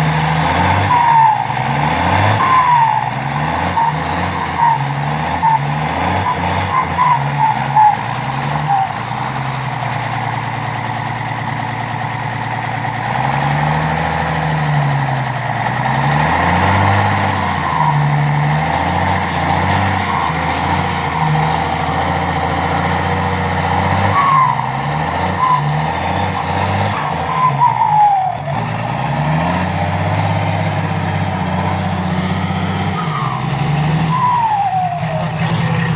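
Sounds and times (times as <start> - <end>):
diesel engine revving: 0.0 - 35.9.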